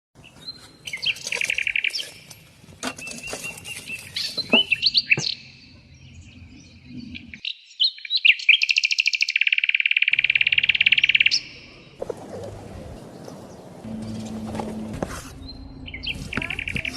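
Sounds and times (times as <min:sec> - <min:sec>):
songbirds trilling and chirping: 0:00.2 - 0:16.9.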